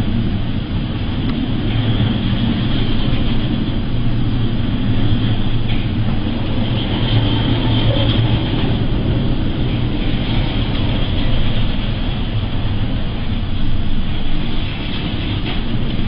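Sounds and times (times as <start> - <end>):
ship engine droning: 0.0 - 16.0
wind and sea noise: 0.0 - 16.0.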